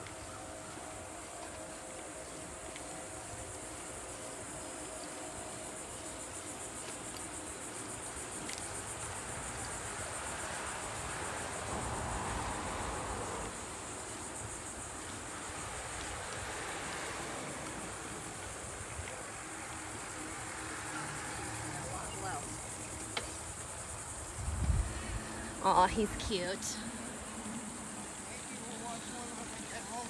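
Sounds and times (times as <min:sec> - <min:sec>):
bicycle tyres rolling and wind: 0:00.0 - 0:30.0
insects droning: 0:00.0 - 0:30.0.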